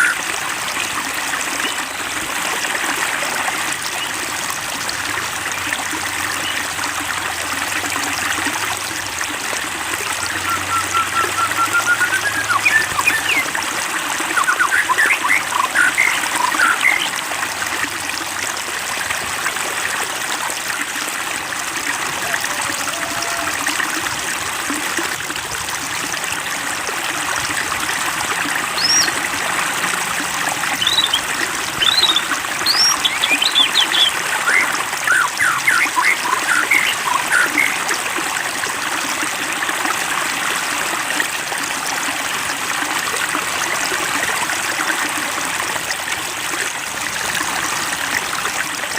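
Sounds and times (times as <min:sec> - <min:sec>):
water trickling: 0:00.0 - 0:48.9.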